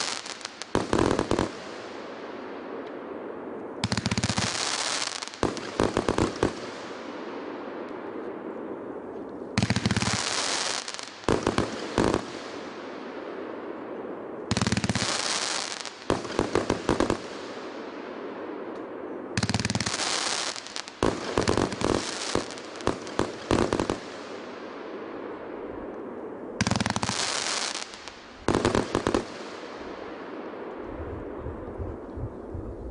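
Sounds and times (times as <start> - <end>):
fireworks sharp bangs: 0.0 - 8.8, 9.4 - 31.4.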